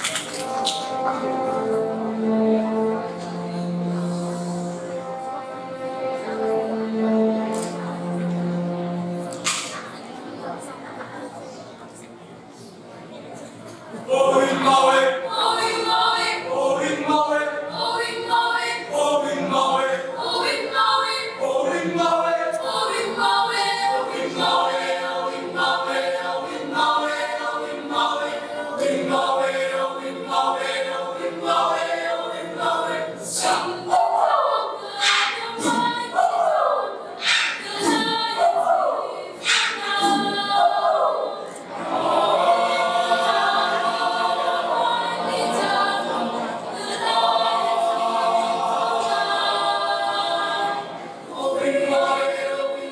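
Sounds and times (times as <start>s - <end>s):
choir singing a cappella: 0.0s - 10.6s, 13.9s - 52.9s.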